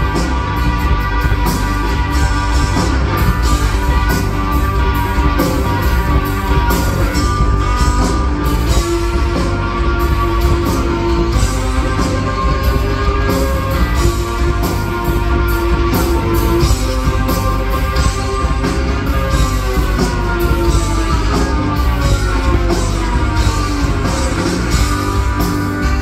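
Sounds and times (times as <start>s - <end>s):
rock band playing: 0.0s - 26.0s
saxophone long notes: 0.0s - 26.0s.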